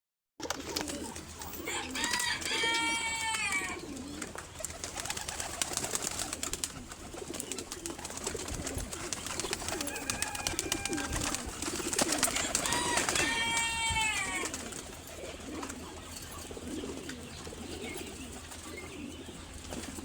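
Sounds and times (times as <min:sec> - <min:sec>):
high drawn-out pigeon call: 0:00.4 - 0:20.0
pigeons cooing: 0:00.4 - 0:20.0.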